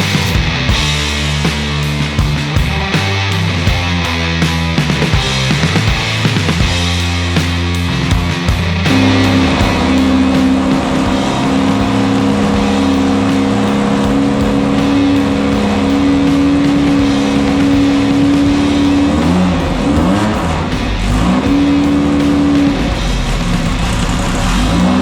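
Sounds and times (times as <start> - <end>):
buggy engine running: 0.0 - 25.0.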